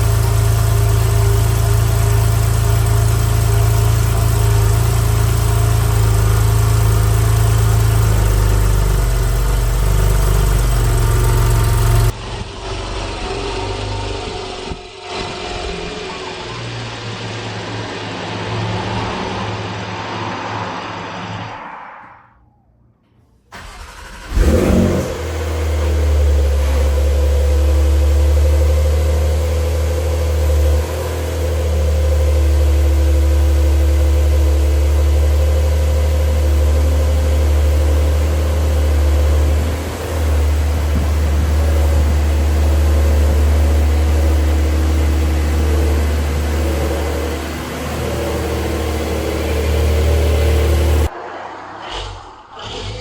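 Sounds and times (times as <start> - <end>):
car engine starting and idling: 0.0 - 21.6, 23.5 - 53.0.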